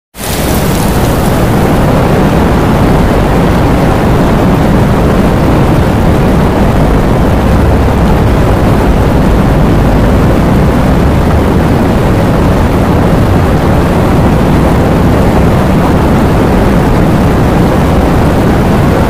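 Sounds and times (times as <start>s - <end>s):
heavy rain in strong wind: 0.1s - 19.0s.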